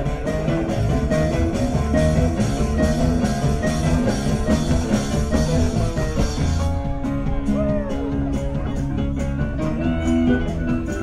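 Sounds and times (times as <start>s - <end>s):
bass guitar: 0.0s - 11.0s
drum kit: 0.0s - 11.0s
electric guitar: 0.0s - 11.0s.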